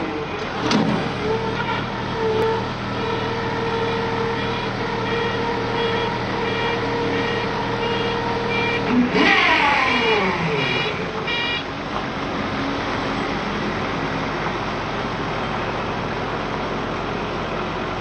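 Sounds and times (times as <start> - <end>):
machine engine and hydraulics whining: 0.0 - 18.0.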